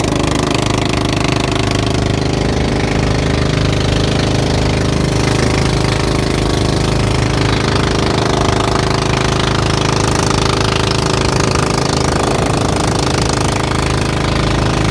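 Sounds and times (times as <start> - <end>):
boat engine chugging: 0.0 - 14.9.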